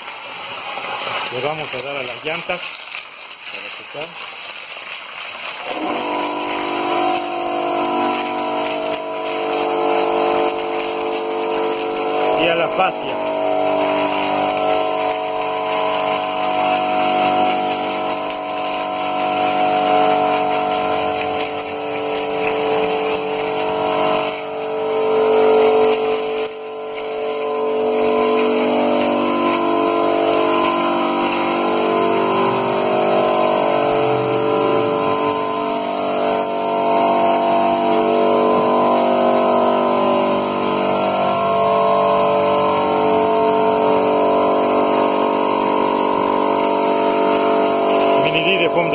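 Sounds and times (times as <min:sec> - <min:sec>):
air compressor running: 0:00.0 - 0:48.9.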